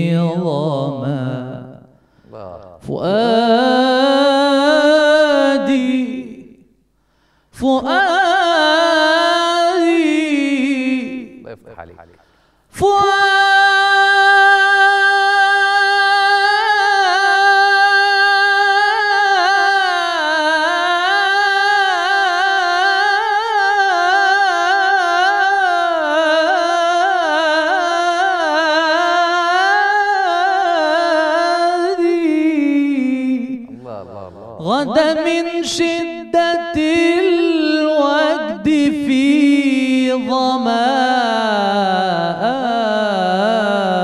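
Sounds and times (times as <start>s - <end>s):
man singing unaccompanied: 0.0s - 6.7s, 7.6s - 12.1s, 12.7s - 44.0s.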